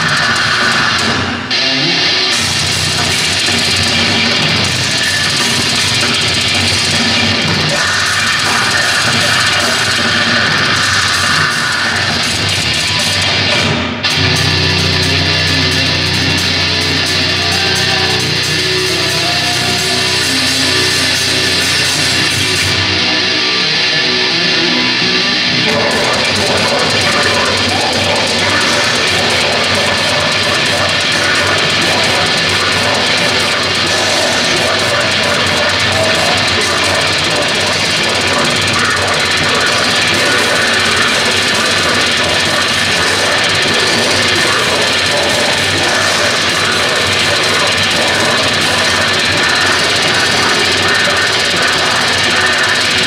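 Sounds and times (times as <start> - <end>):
death metal band playing: 0.0 - 53.0
electric guitar: 0.0 - 53.0.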